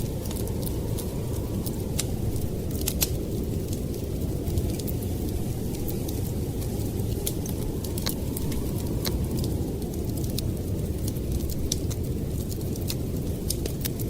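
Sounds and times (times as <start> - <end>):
storm wind roaring: 0.0 - 14.0
wood fire crackling and popping: 0.0 - 14.0.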